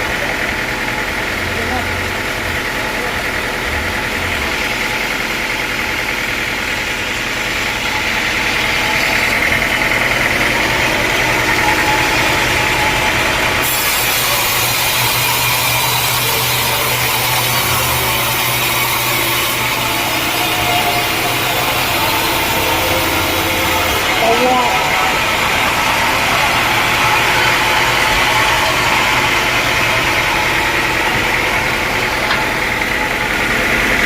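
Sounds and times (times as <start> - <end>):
machinery hum: 0.0 - 34.0
saw cutting through log: 0.0 - 34.0.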